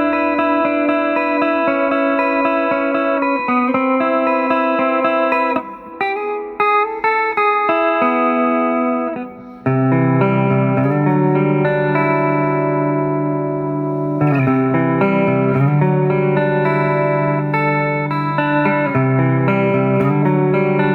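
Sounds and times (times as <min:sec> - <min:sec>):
electric guitar notes and chord: 0:00.0 - 0:20.9.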